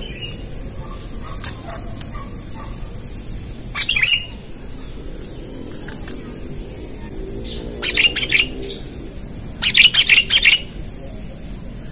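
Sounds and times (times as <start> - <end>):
bird chirping calls: 0.0 - 11.9.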